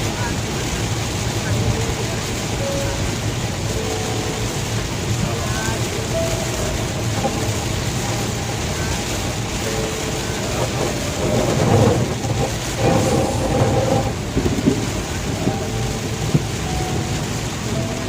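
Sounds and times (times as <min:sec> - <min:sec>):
heavy rain on a car: 0:00.0 - 0:18.0
low rumble: 0:00.0 - 0:18.0.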